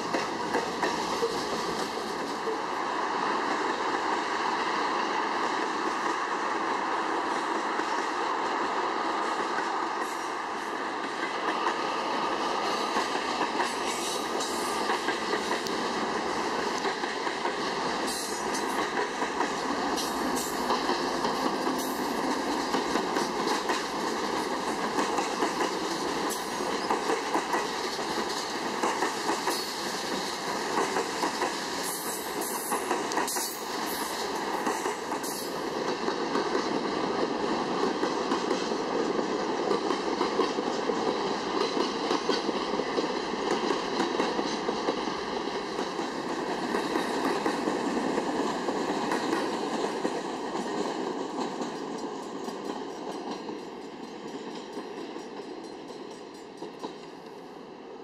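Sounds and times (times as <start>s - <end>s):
wheels clickety-clack: 0.0s - 2.7s, 7.3s - 57.2s
freight train wheels rumbling on rails: 0.0s - 58.0s.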